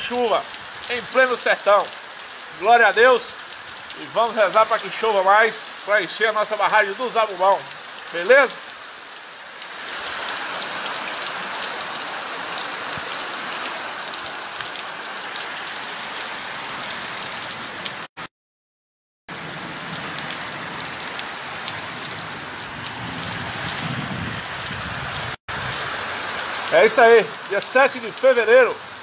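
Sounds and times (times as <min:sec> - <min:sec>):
heavy rain on water: 0:00.0 - 0:18.1, 0:19.3 - 0:29.0.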